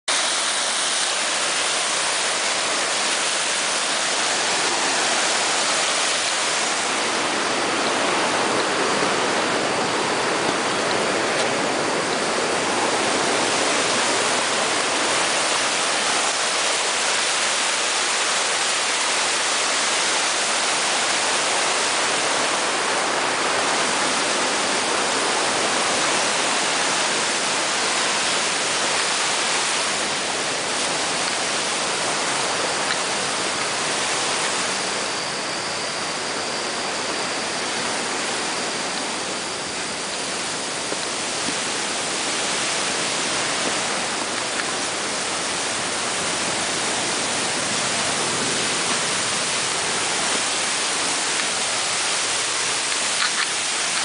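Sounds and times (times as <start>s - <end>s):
stream rushing over boulders: 0.1s - 54.0s.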